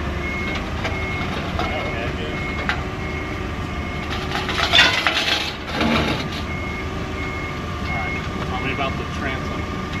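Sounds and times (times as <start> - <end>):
reversing beeper: 0.0 - 10.0.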